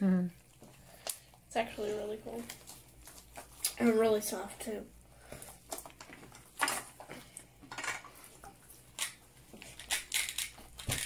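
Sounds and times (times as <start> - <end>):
slime squelching: 0.4 - 10.8.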